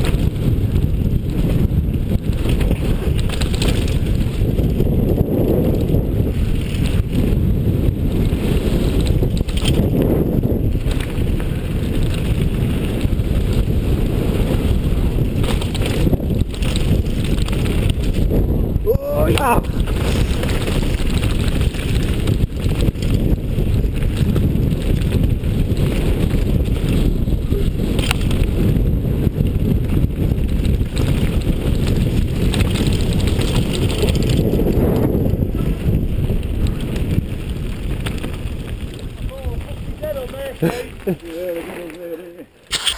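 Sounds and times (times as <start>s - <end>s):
bike clattering over bumps: 0.0s - 18.8s, 19.7s - 41.2s
tyres on loose gravel: 0.0s - 42.9s
wind buffeting microphone: 0.0s - 42.9s.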